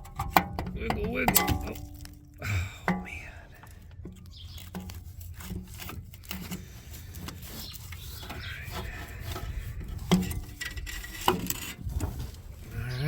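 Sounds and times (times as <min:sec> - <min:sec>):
clunks and scrapes of metal: 0:00.0 - 0:13.0.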